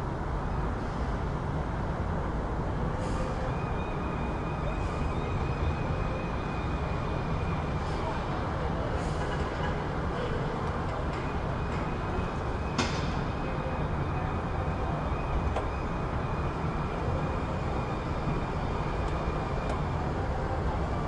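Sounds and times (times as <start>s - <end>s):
low rumble of vehicles: 0.0s - 21.0s.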